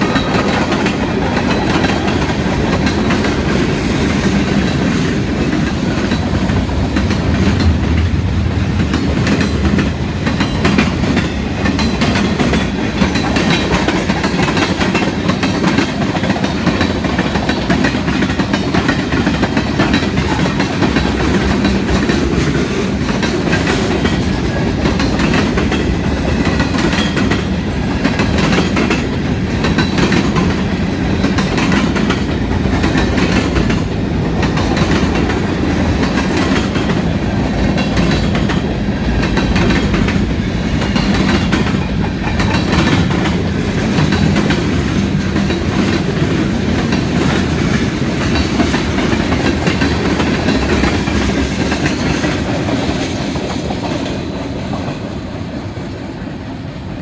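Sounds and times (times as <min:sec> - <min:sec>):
wheels clacking over rail joints: 0:00.0 - 0:55.1
train wheels rumbling on rails: 0:00.0 - 0:57.0.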